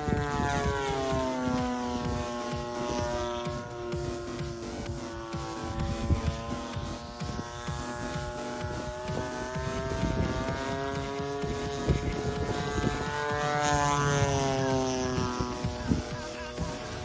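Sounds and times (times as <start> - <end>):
model airplane engine passing: 0.0 - 17.0.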